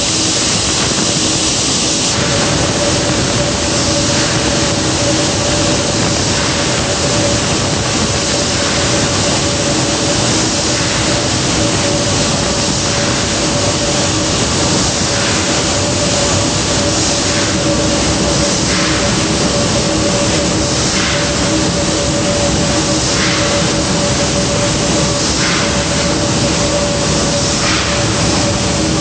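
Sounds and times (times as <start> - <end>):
large gas engines running: 0.0 - 29.0.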